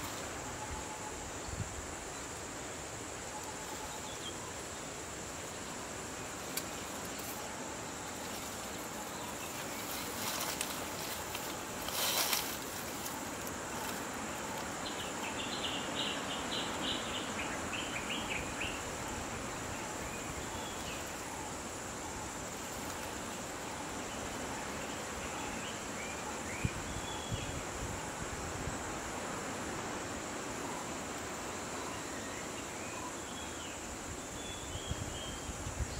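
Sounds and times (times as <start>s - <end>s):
noisy rustle: 0.0s - 31.8s
insect drone: 0.0s - 35.9s
steady hiss: 0.0s - 35.9s.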